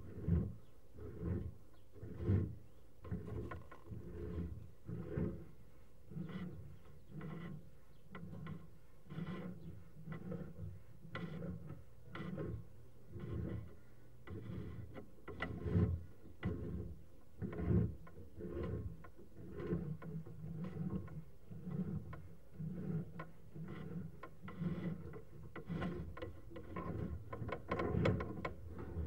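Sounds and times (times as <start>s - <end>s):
cable scraping in drain pipe: 0.0s - 29.0s.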